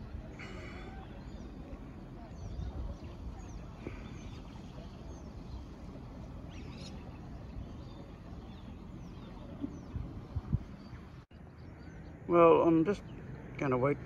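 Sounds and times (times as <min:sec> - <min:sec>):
faint birds chirping: 0:00.0 - 0:14.0
low rumbling background noise: 0:00.0 - 0:14.0.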